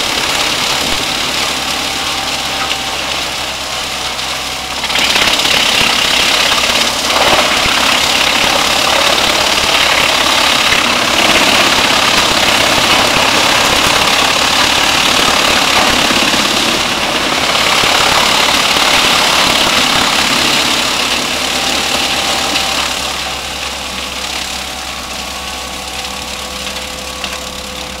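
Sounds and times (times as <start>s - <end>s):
diesel engine drone: 0.0s - 28.0s
wood chipper grinding branches: 0.0s - 28.0s.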